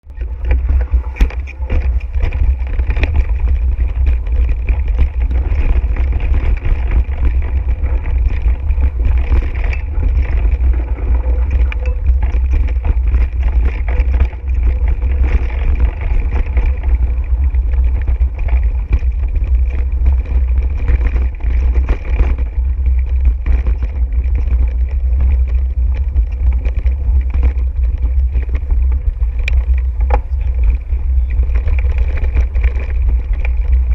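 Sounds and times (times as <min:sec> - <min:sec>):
bike clicks and rattles: 0:00.0 - 0:33.9
wind rumble on microphone: 0:00.0 - 0:33.9.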